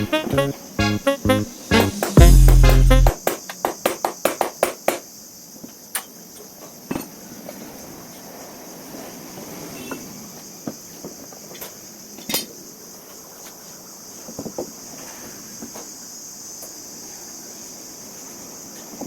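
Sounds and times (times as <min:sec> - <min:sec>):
crickets chirring: 0:03.1 - 0:19.0.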